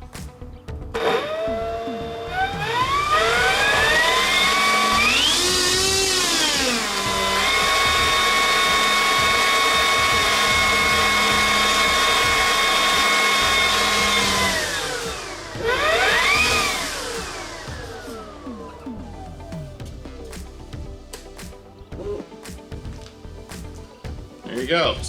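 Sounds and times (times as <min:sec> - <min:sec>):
electric fan whine: 0:01.0 - 0:21.8.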